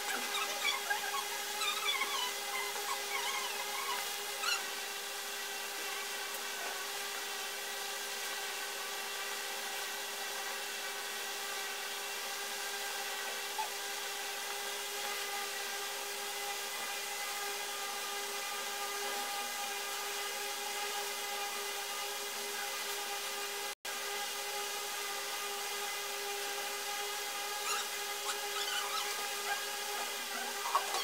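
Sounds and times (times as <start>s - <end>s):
steady whirring hum: 0.0s - 31.0s.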